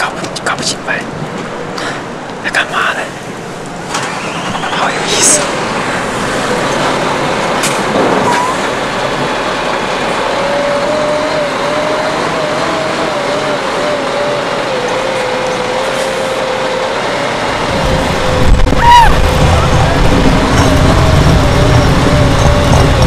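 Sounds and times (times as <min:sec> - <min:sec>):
heavy truck running: 0:03.0 - 0:23.0.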